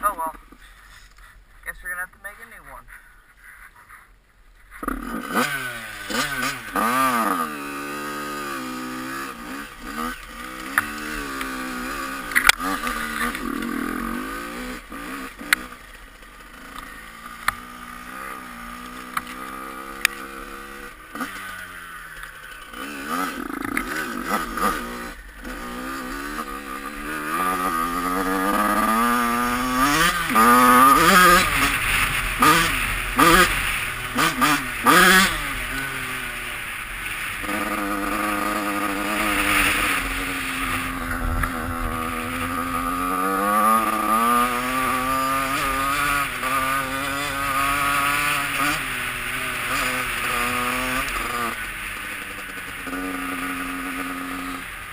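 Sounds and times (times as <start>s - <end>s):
dirt bike engine revving: 4.8s - 54.9s.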